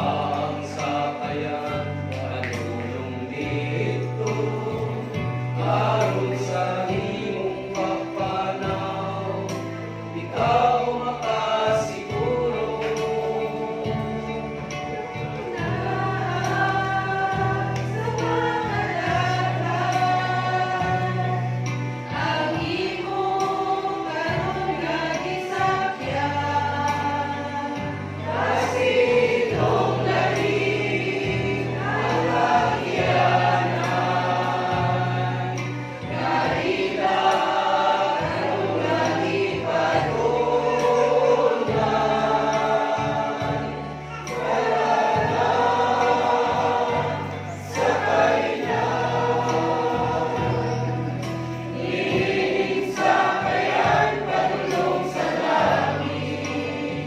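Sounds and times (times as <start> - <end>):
bass accompaniment: 0.0 - 57.0
choir singing a hymn: 0.0 - 57.0.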